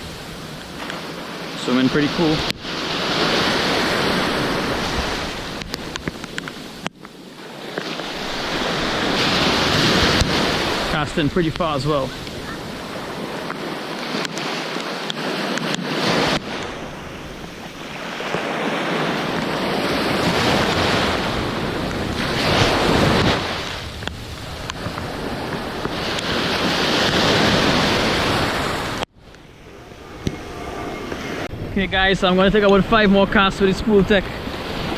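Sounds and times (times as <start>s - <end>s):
ocean surf breaking: 0.0s - 34.9s
wind rumbling on microphone: 0.0s - 34.9s.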